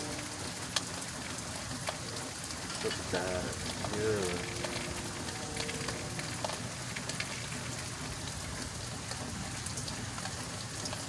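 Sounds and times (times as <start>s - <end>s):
raindrops ticking on surfaces: 0.0s - 11.0s
steady rain hiss: 0.0s - 11.0s.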